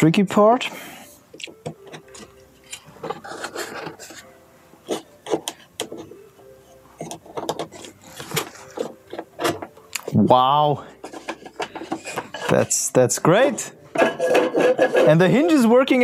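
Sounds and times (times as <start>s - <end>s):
wood rubbing: 1.3s - 15.7s.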